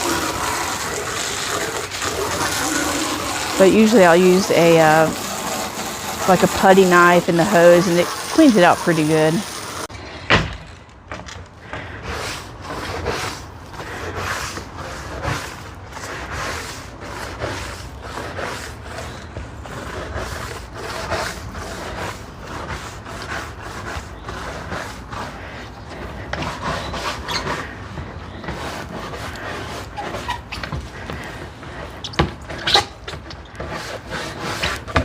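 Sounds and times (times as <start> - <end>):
putty knife scraping wood: 0.0 - 9.9, 11.1 - 35.0.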